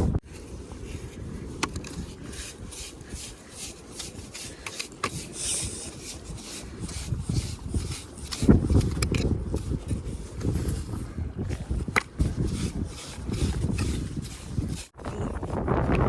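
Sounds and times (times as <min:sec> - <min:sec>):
hand scraper raking through mud: 0:00.2 - 0:15.9.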